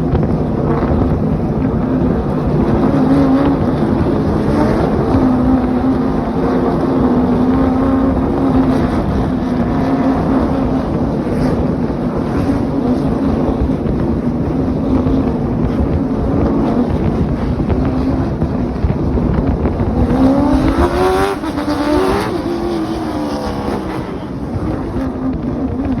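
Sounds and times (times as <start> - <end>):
car engines running: 0.0 - 26.0
road and wind noise: 0.0 - 26.0.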